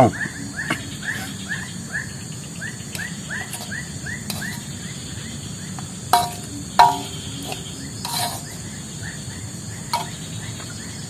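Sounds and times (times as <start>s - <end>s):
high background hiss: 0.0s - 11.0s.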